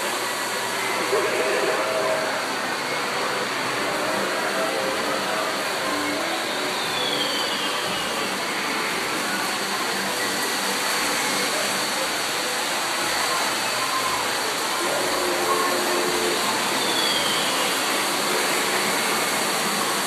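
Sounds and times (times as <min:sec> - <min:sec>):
model trains whirring: 0:00.0 - 0:20.0.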